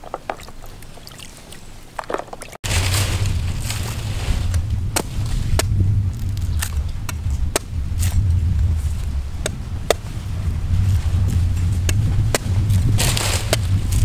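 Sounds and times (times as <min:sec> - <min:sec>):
steady low rumble: 0:02.6 - 0:14.0.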